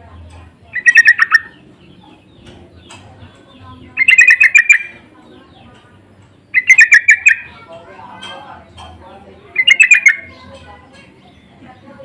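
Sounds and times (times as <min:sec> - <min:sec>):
bulbuls singing bubbling phrases: 0:00.0 - 0:08.1, 0:09.2 - 0:12.0.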